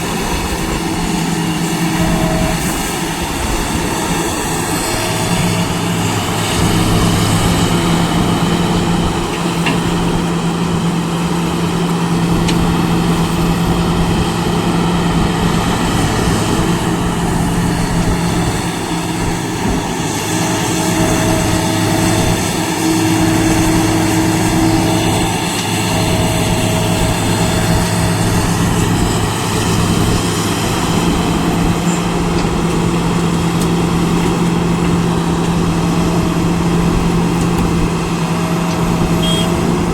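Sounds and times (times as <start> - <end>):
diesel engine running loudly: 0.0 - 39.9.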